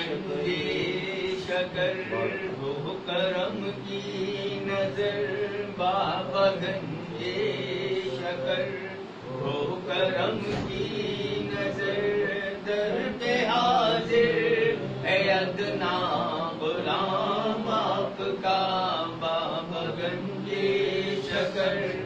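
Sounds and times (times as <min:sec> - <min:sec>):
men chanting devotional recitation: 0:00.0 - 0:22.0.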